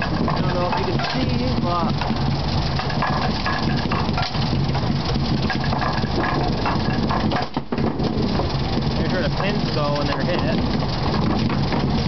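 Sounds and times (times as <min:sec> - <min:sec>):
machinery low hum: 0:00.0 - 0:12.0
pins clattering and knocking: 0:00.0 - 0:12.0.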